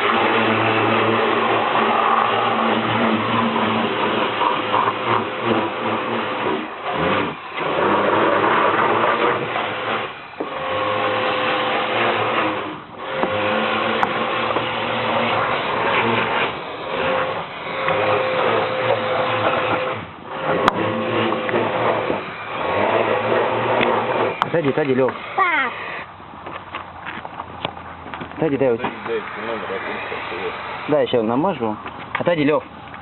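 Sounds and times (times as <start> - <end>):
pressure washer motor and pump: 0.0 - 33.0.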